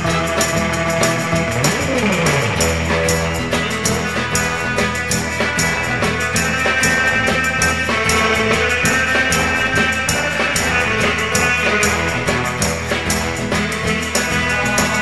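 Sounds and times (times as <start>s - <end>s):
rock music with drums and guitar: 0.0s - 15.0s.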